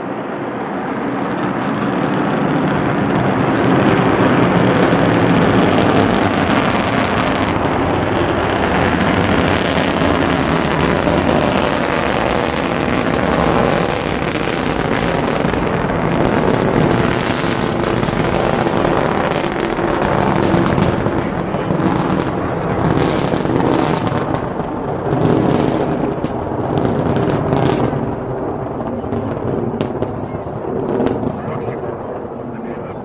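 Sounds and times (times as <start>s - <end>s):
distant rocket engines rumbling: 0.0s - 33.0s.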